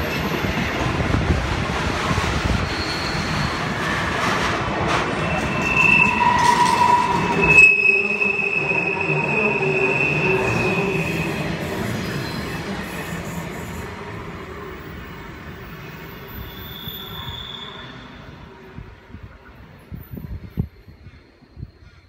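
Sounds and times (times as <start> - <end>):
freight train rumble: 0.0 - 22.0
train wheels squealing: 2.3 - 18.7, 19.8 - 22.0.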